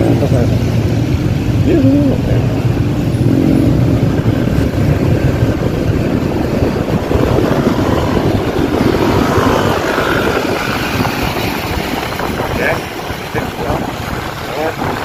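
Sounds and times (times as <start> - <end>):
scooter engine: 0.0 - 15.0
wind buffeting microphone: 0.0 - 15.0.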